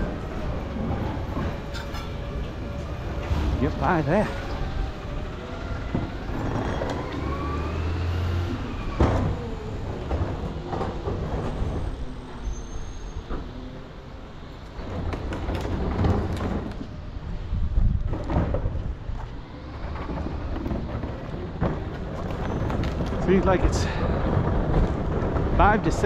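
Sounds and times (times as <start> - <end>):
truck engine hum and whine: 0.0 - 26.0.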